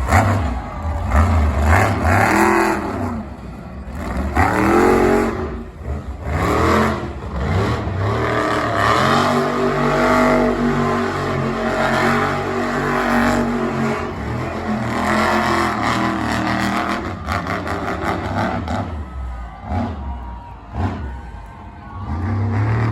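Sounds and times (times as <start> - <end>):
monster truck engine revving: 0.0 - 22.9.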